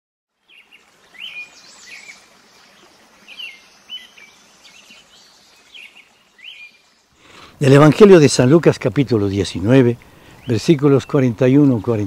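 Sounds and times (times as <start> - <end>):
faint steady outdoor hiss: 0.3 - 12.0
songbirds chirping: 0.3 - 12.0.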